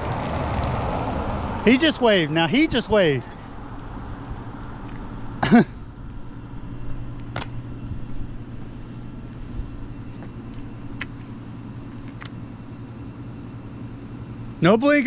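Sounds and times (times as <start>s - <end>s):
road traffic: 0.0s - 15.0s
vehicle engine idling: 0.0s - 15.0s.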